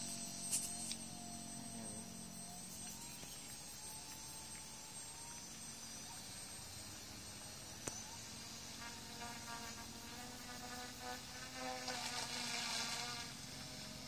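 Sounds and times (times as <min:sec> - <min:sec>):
model plane motor buzzing: 0:00.0 - 0:14.0.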